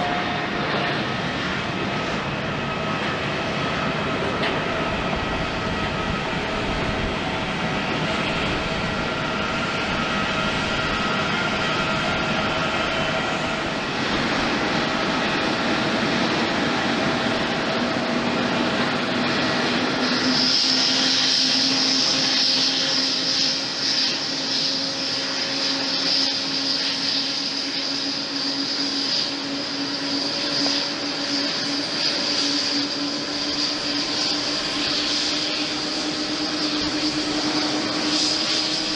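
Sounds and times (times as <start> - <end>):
jet airliner engines running: 0.0 - 38.9.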